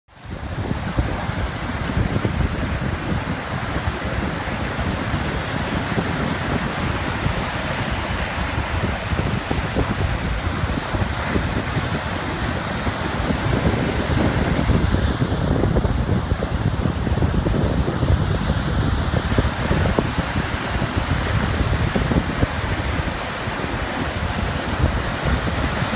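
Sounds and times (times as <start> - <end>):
ocean waves lapping on beach: 0.1 - 25.9
wind buffeting microphone: 0.1 - 25.9.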